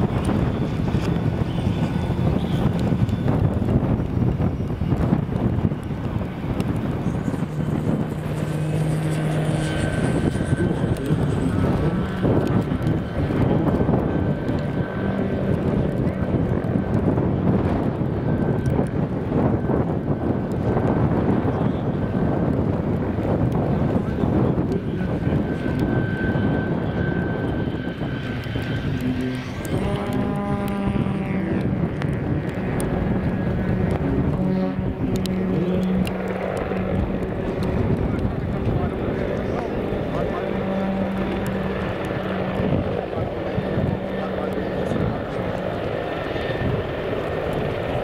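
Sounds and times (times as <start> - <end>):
electric motor whine: 0.0 - 48.0
propeller humming: 0.0 - 48.0
wind rumbling on microphone: 0.0 - 48.0.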